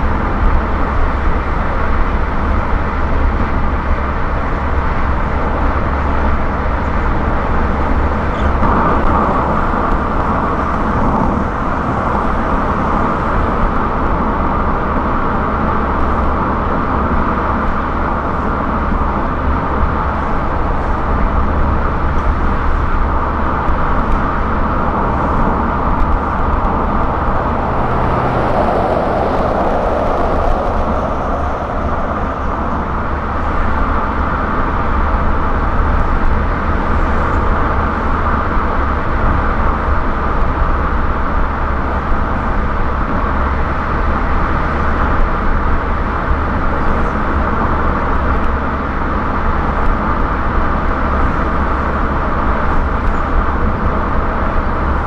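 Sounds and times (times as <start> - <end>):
tyre and road noise: 0.0 - 55.0.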